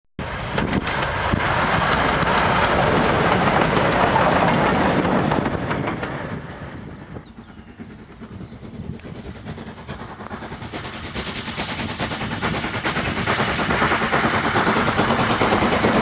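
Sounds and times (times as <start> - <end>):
train wheels rumbling on rails: 0.2 - 16.0
sharp rail clicks: 0.5 - 6.5, 7.7 - 16.0.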